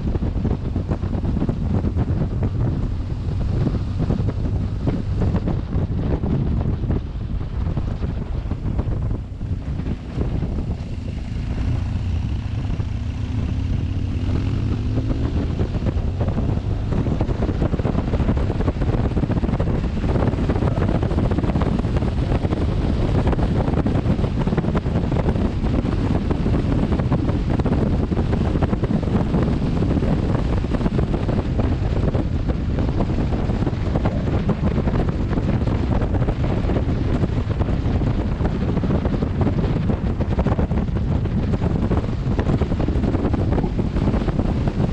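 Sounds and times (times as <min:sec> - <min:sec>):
motorcycle engine: 0:00.0 - 0:44.9
wind blasting on microphone: 0:00.0 - 0:44.9.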